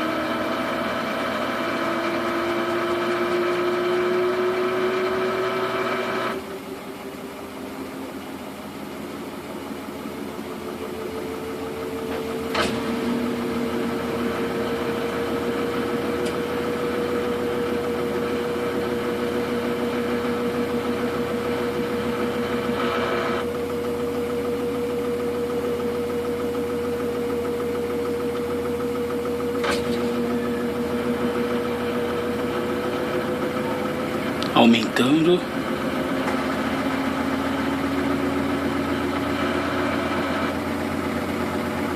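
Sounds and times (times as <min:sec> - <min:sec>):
washing machine spinning: 0:04.8 - 0:41.9.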